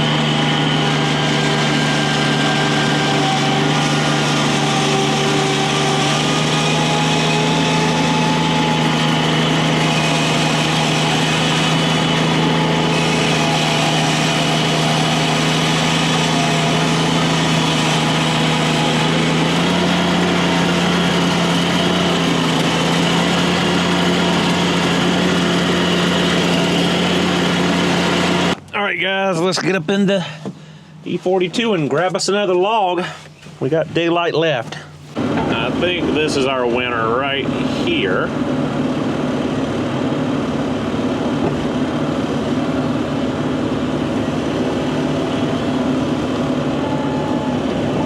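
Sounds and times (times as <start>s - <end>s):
engine running steadily: 0.0s - 33.6s, 34.2s - 48.0s.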